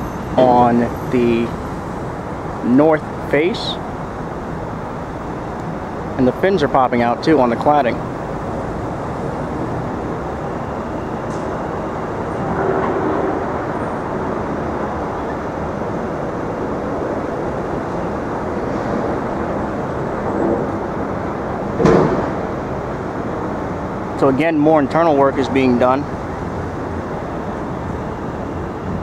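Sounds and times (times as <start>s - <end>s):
street traffic: 0.0s - 29.0s
vehicle passing: 0.0s - 29.0s.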